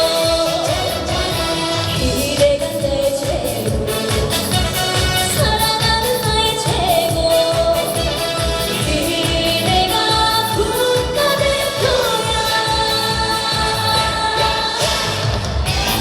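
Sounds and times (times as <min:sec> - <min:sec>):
backing track with steady beat: 0:00.0 - 0:16.0
woman singing: 0:00.0 - 0:16.0.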